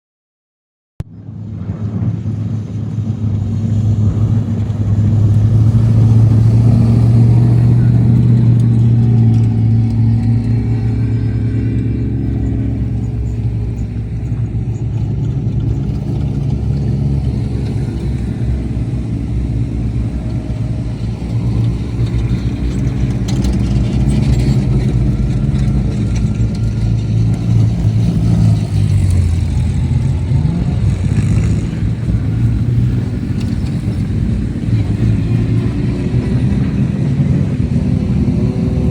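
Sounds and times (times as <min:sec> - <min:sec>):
race vehicle engines droning: 0:01.1 - 0:38.9.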